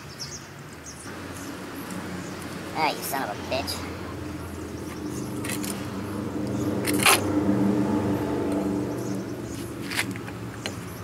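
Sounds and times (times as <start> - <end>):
low engine hum: 1.1 - 11.0.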